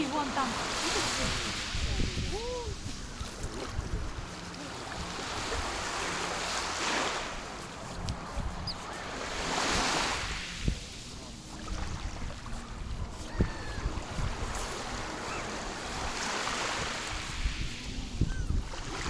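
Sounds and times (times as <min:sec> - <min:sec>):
sea waves breaking on shore: 0:00.0 - 0:19.0
wind rumbling on microphone: 0:00.0 - 0:19.0.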